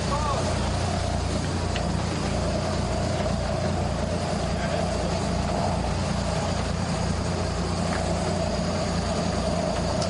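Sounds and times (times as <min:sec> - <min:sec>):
boat engine droning: 0:00.0 - 0:10.0
churning wake rushing: 0:00.0 - 0:10.0.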